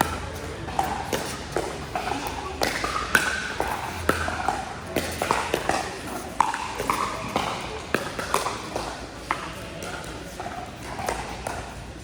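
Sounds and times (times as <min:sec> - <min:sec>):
faint background voices: 0:00.0 - 0:12.0.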